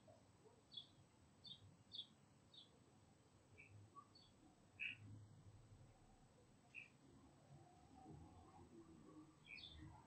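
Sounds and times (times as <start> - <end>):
faint outdoor ambience: 0.0 - 10.0.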